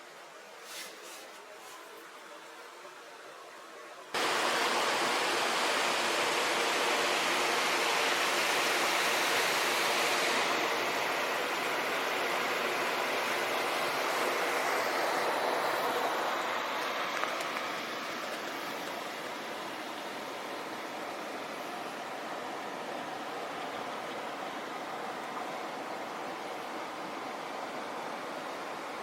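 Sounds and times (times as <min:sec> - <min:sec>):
creek water rushing: 0:04.2 - 0:29.0.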